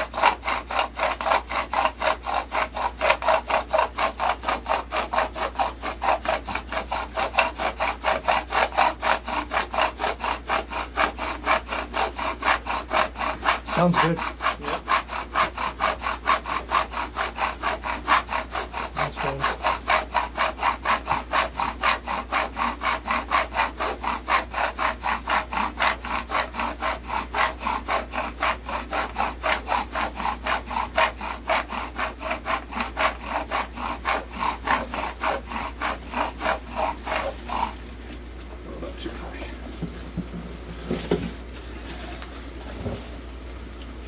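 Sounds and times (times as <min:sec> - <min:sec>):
bow drill rasping: 0:00.0 - 0:37.8.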